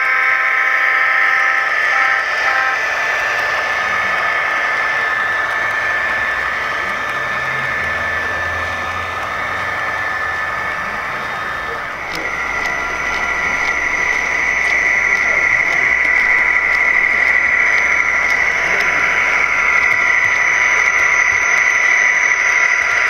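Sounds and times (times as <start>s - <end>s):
model train engine drone: 0.0s - 23.0s.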